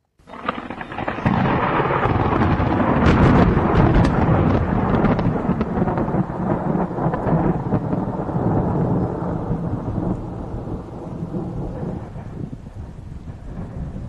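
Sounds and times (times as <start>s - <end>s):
rain: 0.1s - 14.0s
thunder rumbling: 0.2s - 14.0s.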